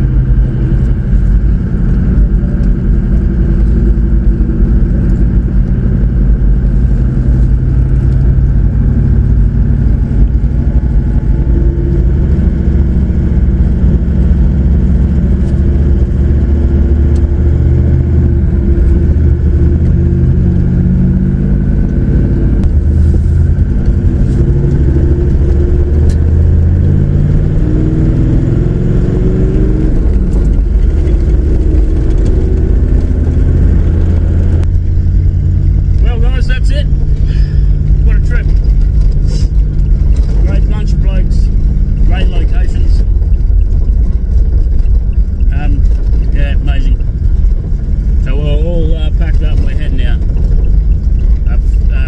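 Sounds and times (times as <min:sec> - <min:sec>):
car engine from inside cab: 0:00.0 - 0:52.0
tyres on sandy track: 0:00.0 - 0:52.0.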